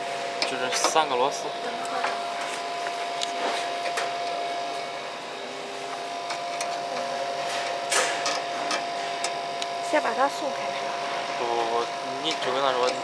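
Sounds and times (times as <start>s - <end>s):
laser cutter machine hum: 0.0s - 13.0s.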